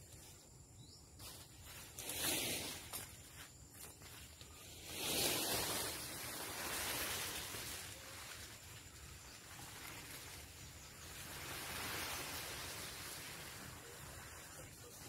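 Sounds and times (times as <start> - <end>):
branches dragged over dry leaves: 1.2 - 14.4.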